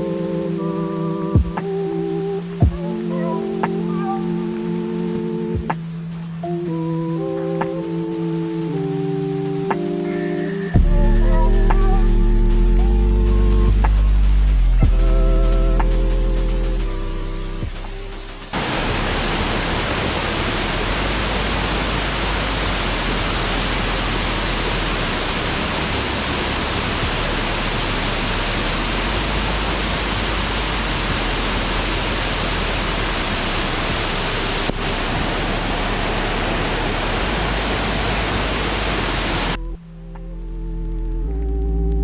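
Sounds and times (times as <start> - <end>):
waterfall rushing: 0.0 - 39.6.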